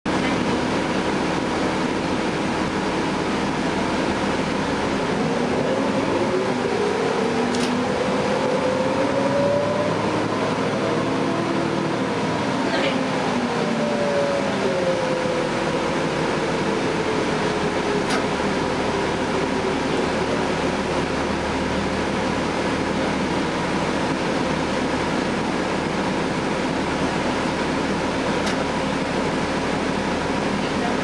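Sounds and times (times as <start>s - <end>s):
bus diesel engine droning: 0.1s - 31.0s.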